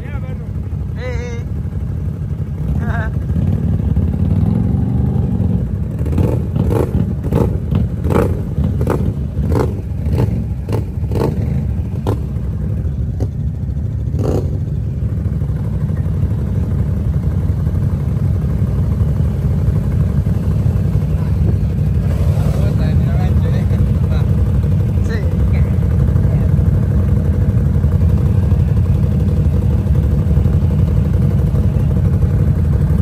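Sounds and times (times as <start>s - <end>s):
atv engines rumbling: 0.0s - 33.0s.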